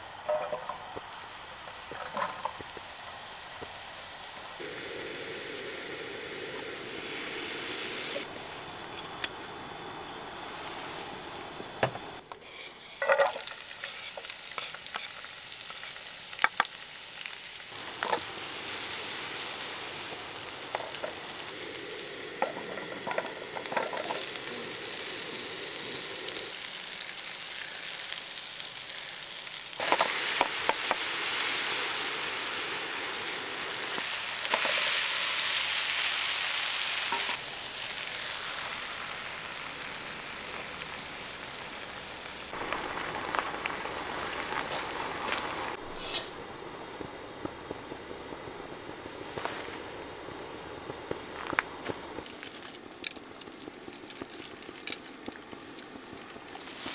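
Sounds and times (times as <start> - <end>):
food sizzling in frying pan: 0.0 - 8.3, 12.5 - 54.9.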